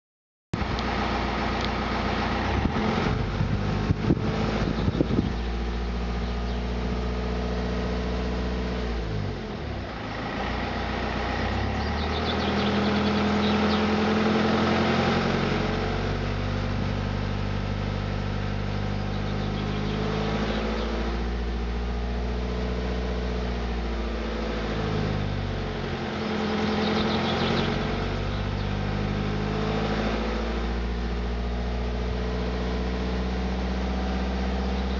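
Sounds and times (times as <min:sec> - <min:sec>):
diesel engine running: 0:00.6 - 0:34.9.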